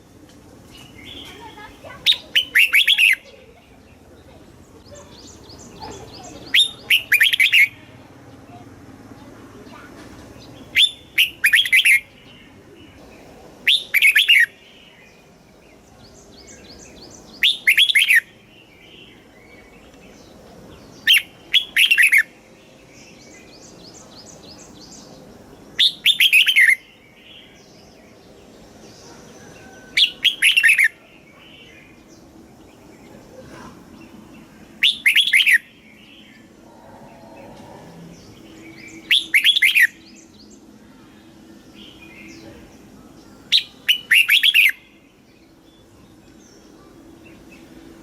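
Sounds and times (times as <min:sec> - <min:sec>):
faint bird chirping: 0:00.0 - 0:48.0
bird singing short song phrases: 0:00.7 - 0:47.7.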